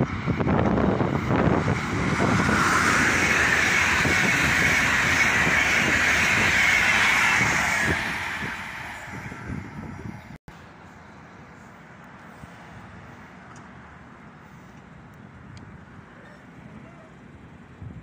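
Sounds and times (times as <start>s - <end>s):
train passing at speed: 0.0s - 17.6s.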